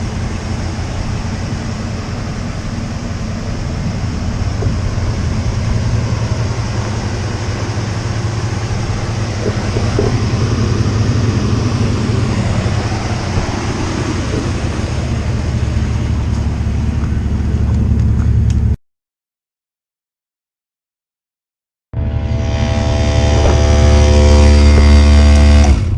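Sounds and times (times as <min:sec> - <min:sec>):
low hum: 0:00.0 - 0:18.8, 0:22.0 - 0:25.9
road noise: 0:00.0 - 0:18.8, 0:22.0 - 0:25.9
vehicle engine drone: 0:00.0 - 0:18.8, 0:22.0 - 0:25.9.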